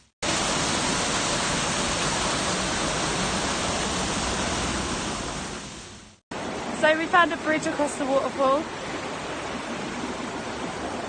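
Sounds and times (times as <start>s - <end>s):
waterfall rushing: 0.2s - 11.0s.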